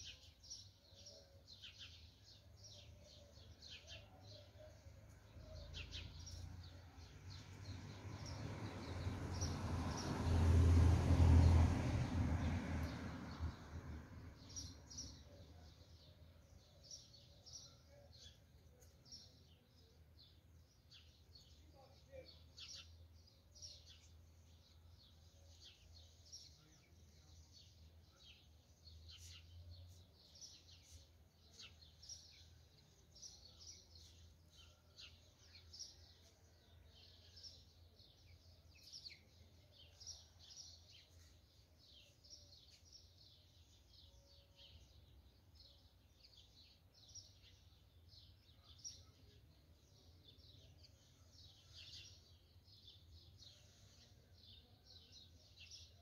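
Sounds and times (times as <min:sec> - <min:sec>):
small birds chirping: 0:00.0 - 0:10.4, 0:11.5 - 0:56.0.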